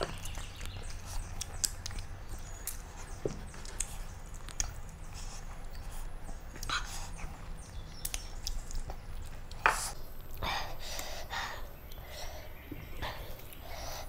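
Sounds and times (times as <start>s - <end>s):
fingers squishing rice: 0.0s - 14.0s
wet chewing and mouth sounds: 0.0s - 14.0s.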